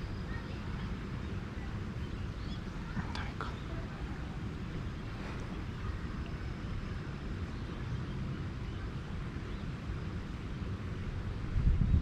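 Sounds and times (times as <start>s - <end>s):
wind buffeting microphone: 0.0s - 7.8s, 9.4s - 12.0s
shallow river water flowing: 0.0s - 11.6s.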